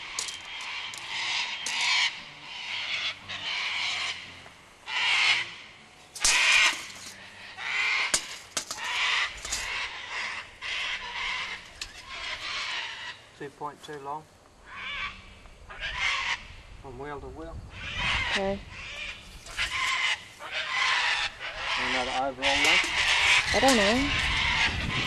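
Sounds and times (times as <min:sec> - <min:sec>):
birds harsh rasping calls: 0:00.0 - 0:25.0.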